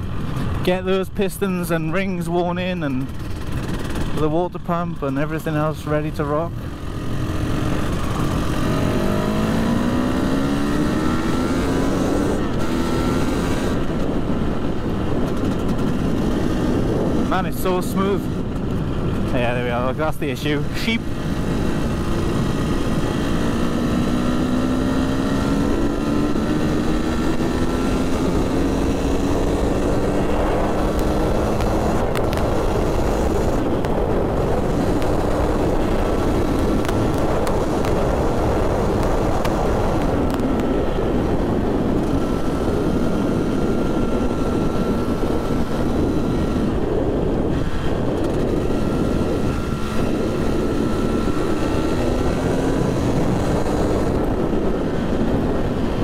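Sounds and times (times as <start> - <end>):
rushing wind noise: 0.0 - 56.0.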